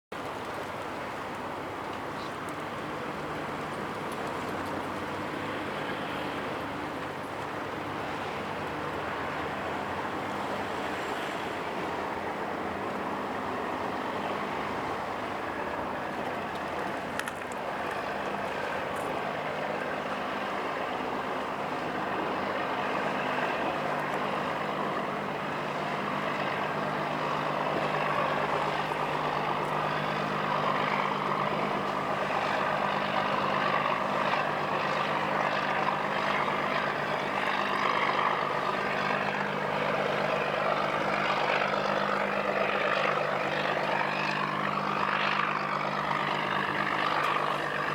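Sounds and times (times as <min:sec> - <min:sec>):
choppy water: 0:00.1 - 0:47.9
wind: 0:00.1 - 0:47.9
diesel boat engine running: 0:00.2 - 0:47.9.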